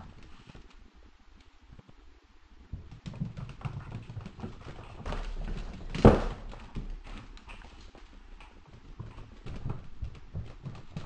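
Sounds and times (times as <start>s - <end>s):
paws clicking on wooden floor: 0.0s - 0.8s, 2.7s - 11.0s.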